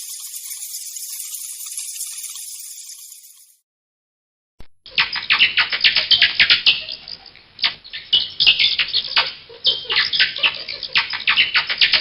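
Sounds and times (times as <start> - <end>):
bats squeaking: 0.0 - 3.6, 4.9 - 12.0.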